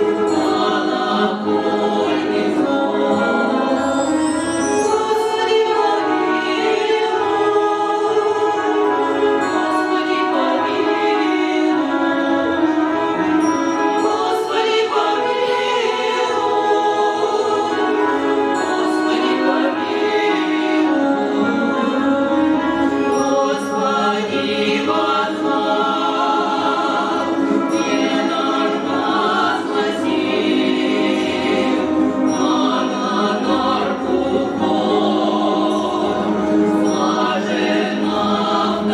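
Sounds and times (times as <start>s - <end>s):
choir singing with accompaniment: 0.0s - 38.9s.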